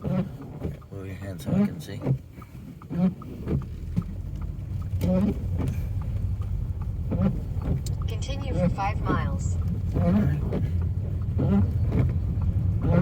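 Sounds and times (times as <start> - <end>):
car interior rumble: 0.0 - 13.0.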